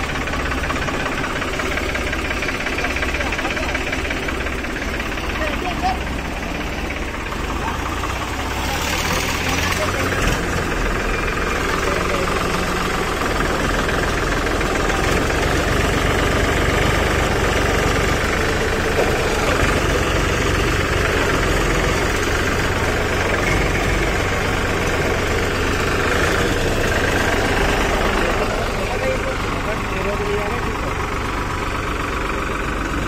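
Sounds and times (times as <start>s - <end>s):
tractor engines under load: 0.0s - 33.0s.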